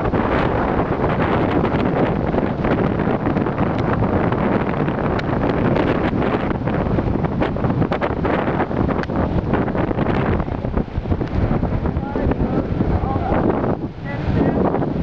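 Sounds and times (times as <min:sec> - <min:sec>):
sharp crackles: 0:00.0 - 0:12.3
storm wind buffeting microphone: 0:00.0 - 0:15.0.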